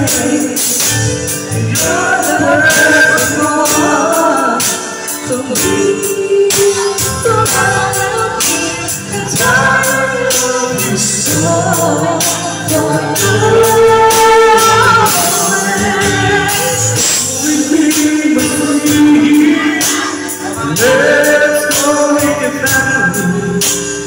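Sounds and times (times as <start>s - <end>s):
amplified backing music with beat: 0.0s - 24.0s
men singing through microphones: 0.0s - 24.0s.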